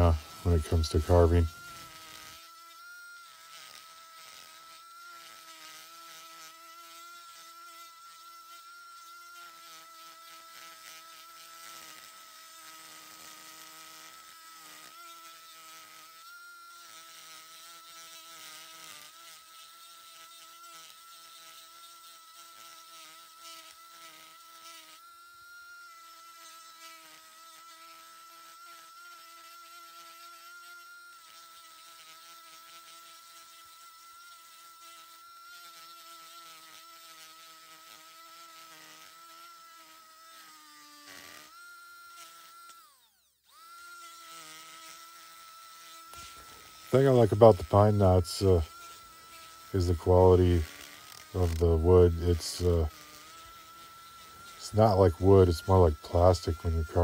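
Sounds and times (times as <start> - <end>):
burr grinding wood: 0.0 - 57.0
rotary tool high whine: 0.0 - 57.0.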